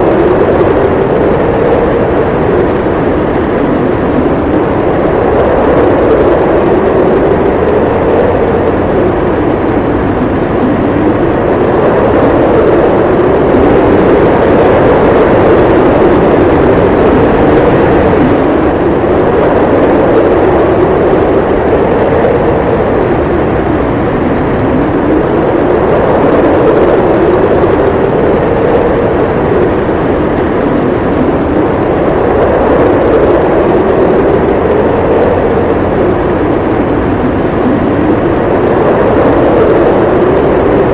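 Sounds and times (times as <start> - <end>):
howling blizzard wind: 0.0 - 40.9.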